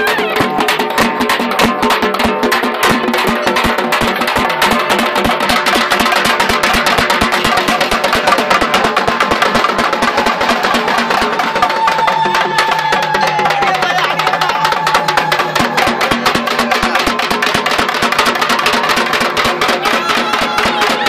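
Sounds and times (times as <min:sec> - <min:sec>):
drums beating fast: 0:00.0 - 0:21.0.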